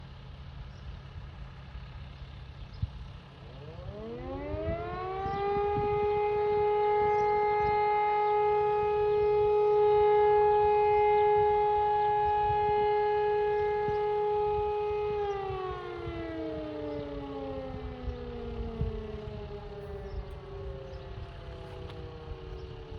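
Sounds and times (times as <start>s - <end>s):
civil defence sirens wailing: 0.0s - 0.4s, 1.1s - 22.9s.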